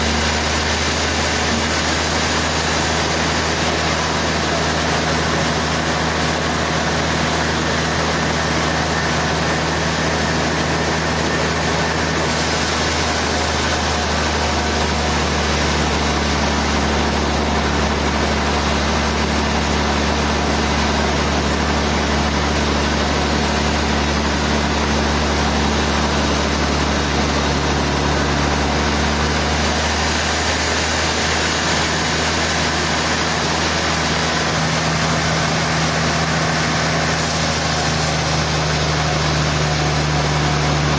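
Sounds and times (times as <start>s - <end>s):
sawmill running: 0.0s - 40.9s.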